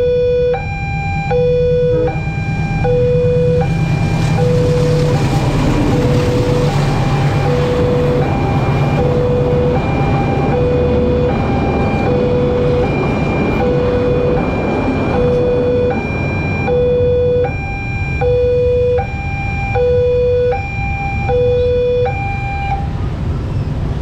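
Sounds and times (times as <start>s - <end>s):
two-tone warning siren: 0.0s - 23.1s
loud steady rumble: 0.0s - 24.0s.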